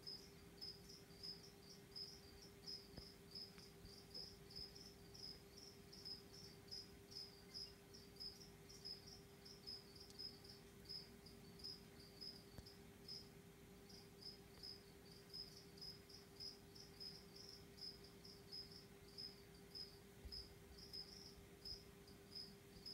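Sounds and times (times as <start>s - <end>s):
cricket chirping: 0.0s - 22.9s
faint low hum: 0.0s - 22.9s.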